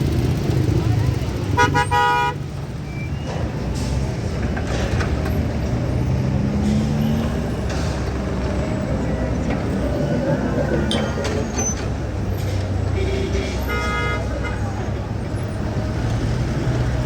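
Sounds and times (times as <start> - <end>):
low rumble of vehicle engines: 0.0 - 17.0.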